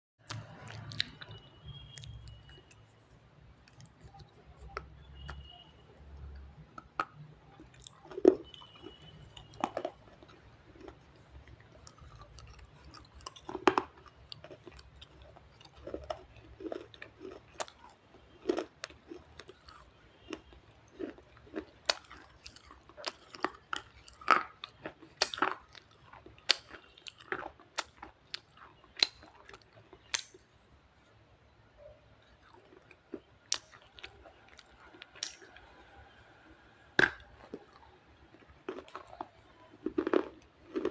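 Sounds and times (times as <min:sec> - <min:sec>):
shale being chewed with crunches: 0:00.2 - 0:30.6, 0:31.8 - 0:40.9.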